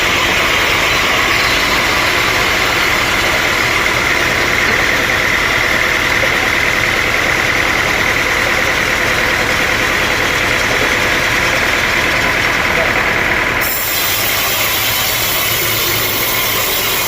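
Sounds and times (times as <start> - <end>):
sawmill machinery drone: 0.0 - 17.0
steady high whine: 0.0 - 17.0.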